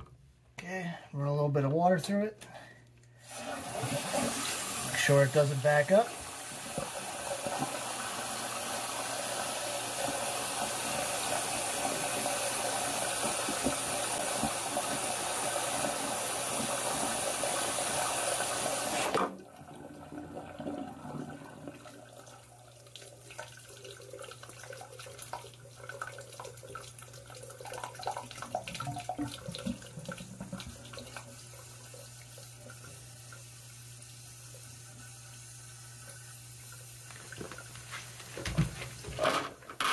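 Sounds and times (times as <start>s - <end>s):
water flowing through drain line: 3.2s - 39.9s.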